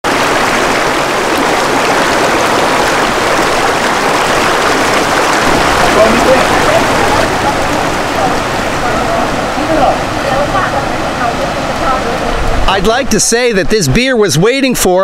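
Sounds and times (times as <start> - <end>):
river rushing over rocks: 0.0 - 13.6.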